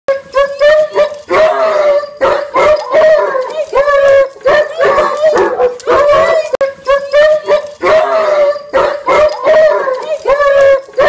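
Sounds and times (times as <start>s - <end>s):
dogs howling and whining: 0.2s - 11.0s.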